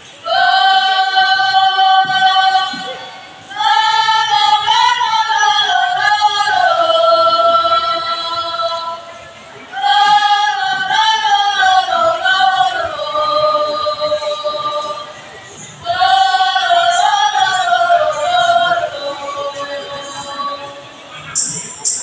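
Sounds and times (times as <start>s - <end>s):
girls singing in unison: 0.0s - 21.6s.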